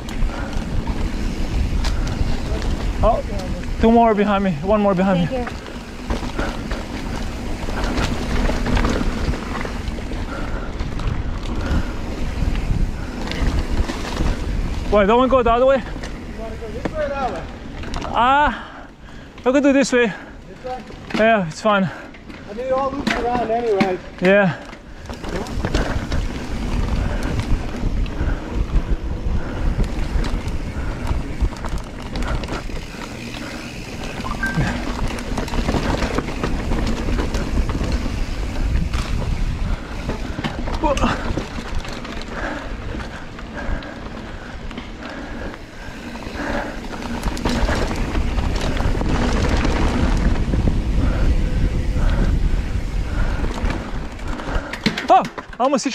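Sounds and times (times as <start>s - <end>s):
wind buffeting microphone: 0.0s - 18.1s, 24.8s - 55.0s
bike clicking and rattling: 0.0s - 55.9s
tyres rumbling on dirt: 0.0s - 55.9s.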